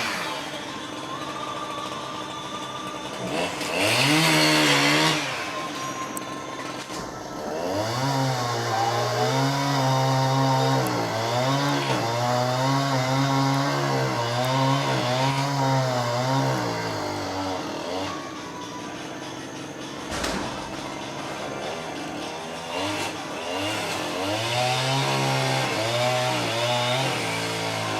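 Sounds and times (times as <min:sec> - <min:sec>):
chainsaw revving: 0:00.0 - 0:27.9.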